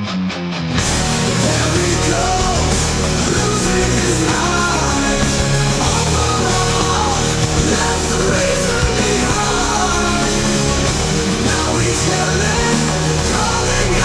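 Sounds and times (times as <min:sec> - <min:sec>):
hard rock band playing: 0:00.0 - 0:14.0.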